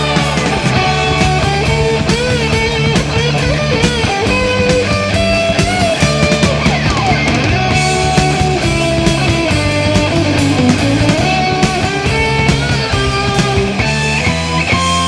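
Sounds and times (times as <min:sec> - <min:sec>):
pounding drums: 0:00.0 - 0:14.2
distorted electric guitar lead: 0:00.0 - 0:15.0
heavy metal band playing: 0:00.0 - 0:15.0.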